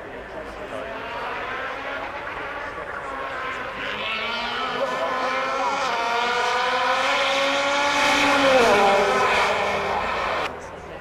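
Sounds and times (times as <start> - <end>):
vehicle engine accelerating: 0.5 - 10.5.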